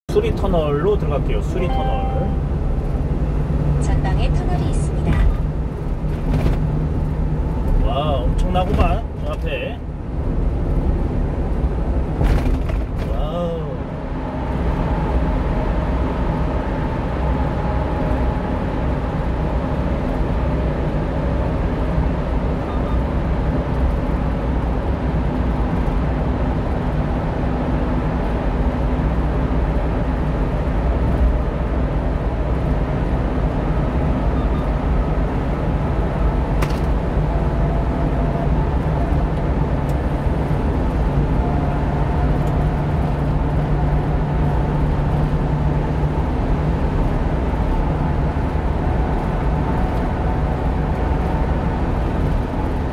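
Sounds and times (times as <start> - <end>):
truck engine and road noise: 0.0 - 52.9.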